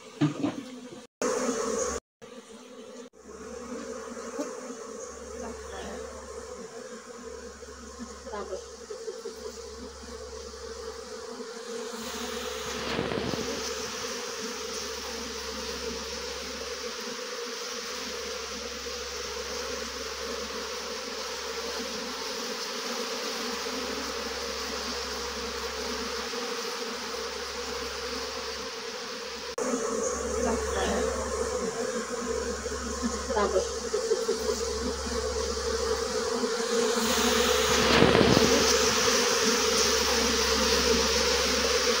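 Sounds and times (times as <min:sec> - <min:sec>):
honey bees buzzing: 0:00.0 - 0:42.0.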